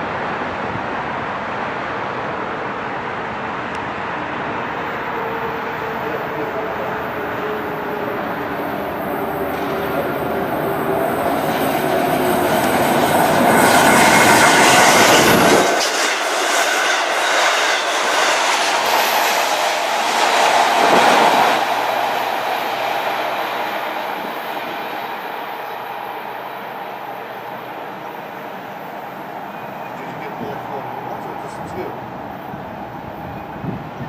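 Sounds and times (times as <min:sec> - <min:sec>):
train passing at speed: 0:00.0 - 0:34.0.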